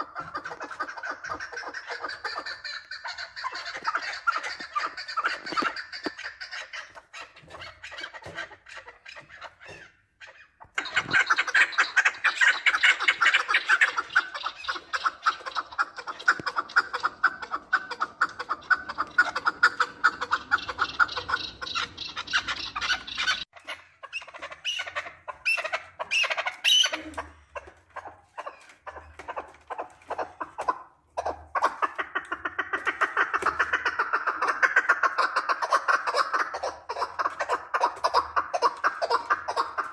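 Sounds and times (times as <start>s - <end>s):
partridges clucking: 0.0s - 39.9s.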